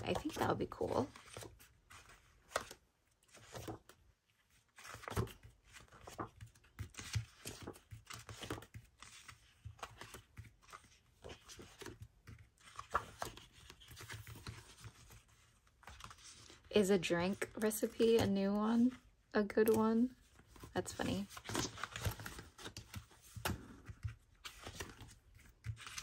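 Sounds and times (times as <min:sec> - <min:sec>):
paper pages rustling and flicking: 0:00.0 - 0:26.0.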